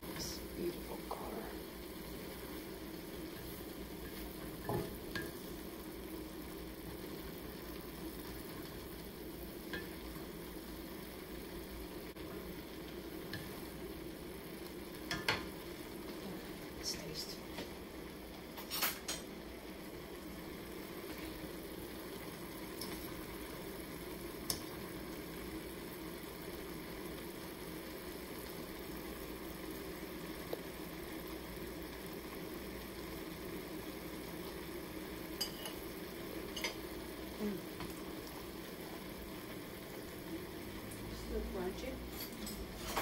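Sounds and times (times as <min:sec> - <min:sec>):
cabbage sizzling in skillet: 0:00.0 - 0:43.0.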